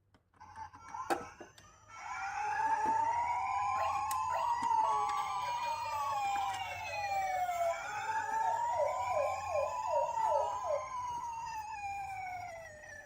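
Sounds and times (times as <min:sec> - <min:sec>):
toy ambulance sirens: 0:00.4 - 0:13.0
short falling siren sweeps: 0:02.1 - 0:13.0.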